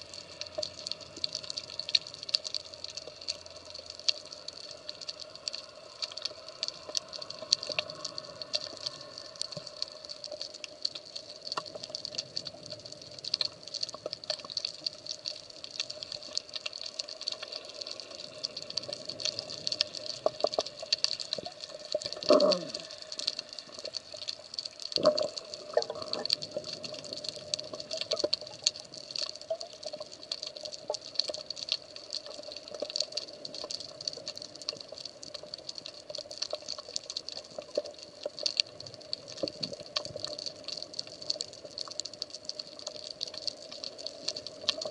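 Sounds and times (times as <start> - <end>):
bubbling gurgles: 0.0 - 44.9
underwater crackle of tiny clicks: 0.0 - 44.9.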